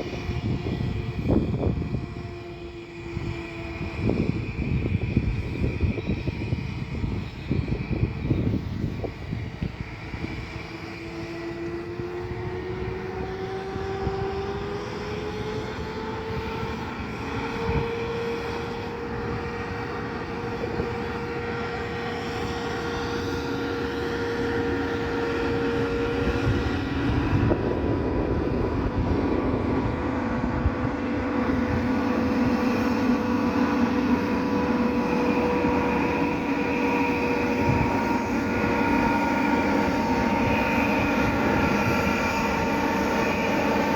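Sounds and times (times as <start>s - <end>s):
locomotive motor whine: 0.0s - 43.9s
locomotive rumble: 0.0s - 43.9s.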